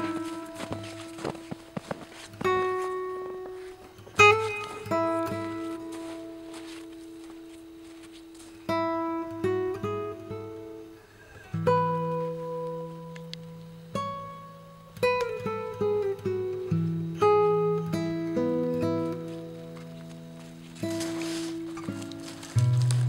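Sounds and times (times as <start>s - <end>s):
slow plucked acoustic guitar: 0.0s - 23.0s.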